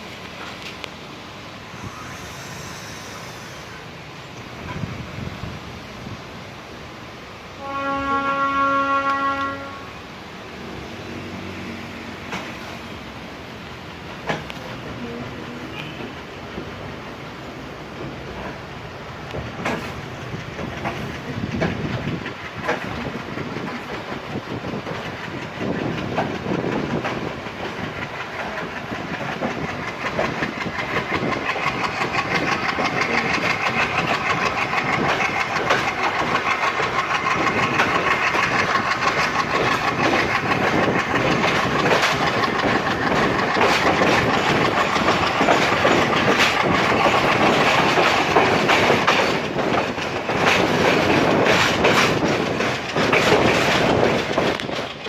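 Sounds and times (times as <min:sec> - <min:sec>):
train wheels clacking on rails: 0:00.0 - 0:05.4, 0:10.4 - 0:55.0.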